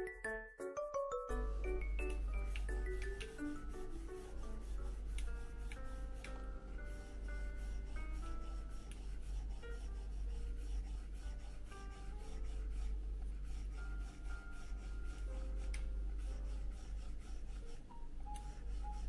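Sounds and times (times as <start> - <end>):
soft background music: 0.0 - 19.0
stylus scratching on tablet screen: 1.3 - 19.0.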